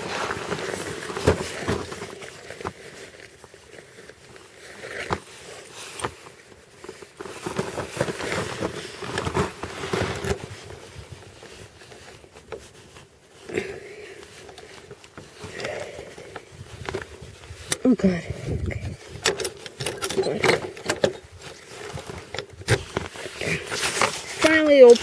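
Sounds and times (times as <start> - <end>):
rustling: 0.0 - 25.0.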